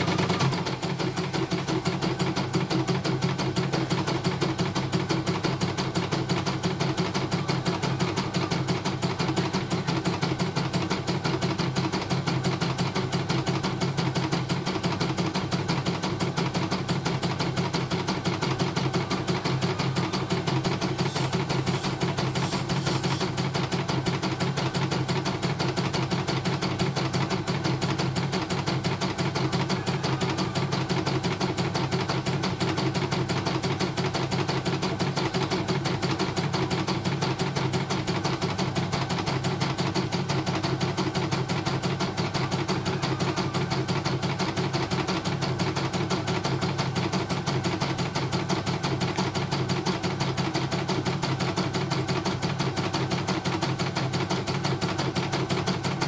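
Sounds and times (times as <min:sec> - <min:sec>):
motor hum: 0:00.0 - 0:56.0.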